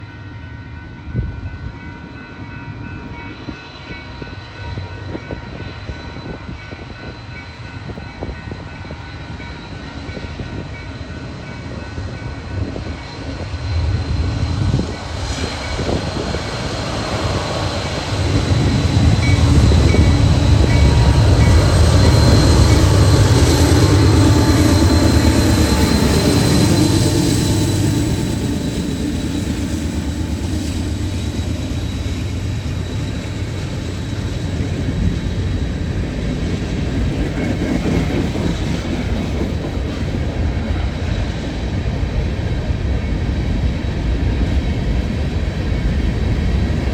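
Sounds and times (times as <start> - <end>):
diesel locomotives engine drone: 0.0 - 46.9.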